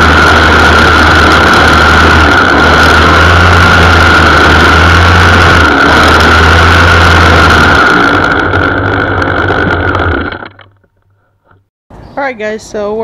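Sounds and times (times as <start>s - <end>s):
string trimmer engine running: 0.0s - 10.8s.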